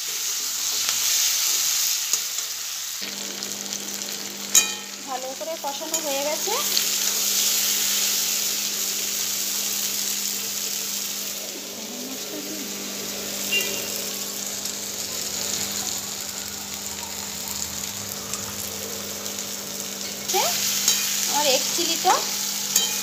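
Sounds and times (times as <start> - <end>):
food sizzling in a wok: 0.0 - 23.0.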